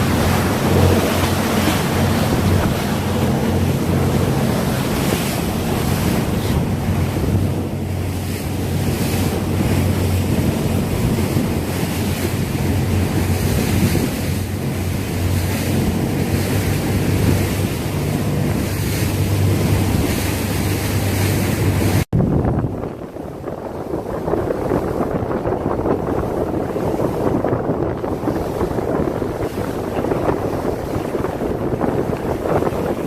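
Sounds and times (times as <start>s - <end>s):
boat engine hum: 0.0s - 33.0s
water rushing past boat: 0.0s - 33.0s
wind buffeting microphone: 0.0s - 33.0s.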